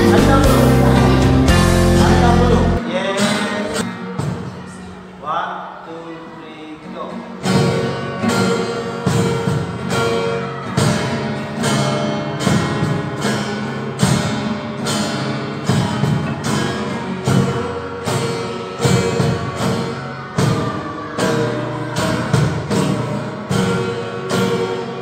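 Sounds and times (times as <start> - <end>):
classical guitars strumming chords: 0.0 - 25.0.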